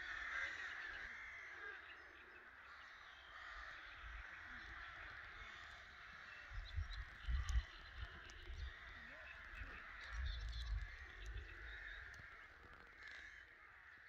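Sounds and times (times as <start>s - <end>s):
crows cawing: 0.0s - 14.0s.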